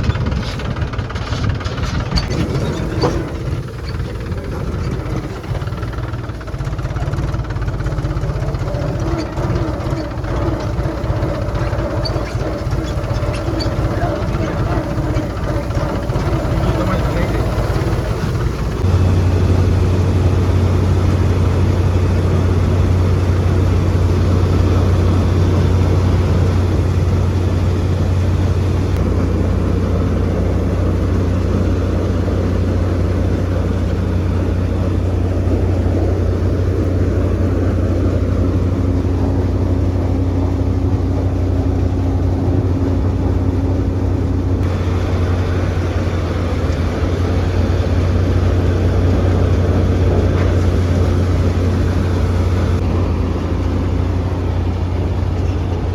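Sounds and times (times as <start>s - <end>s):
machine engine humming: 0.0s - 55.9s.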